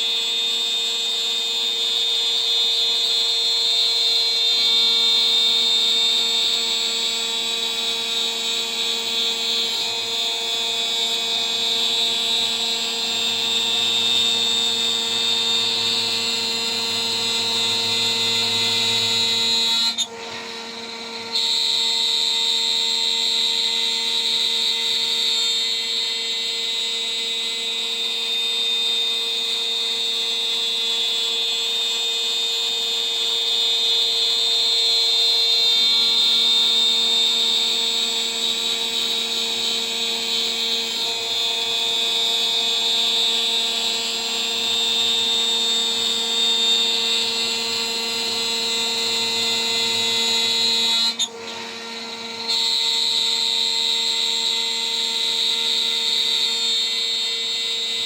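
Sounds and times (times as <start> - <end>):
cnc router spindle whine: 0.0 - 58.0
end mill cutting noise: 4.6 - 28.4, 33.9 - 58.0.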